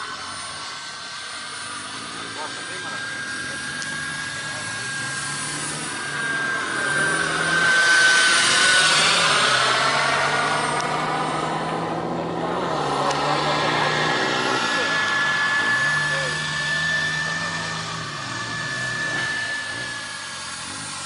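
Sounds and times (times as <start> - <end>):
model jet turbine whining: 0.0 - 21.0.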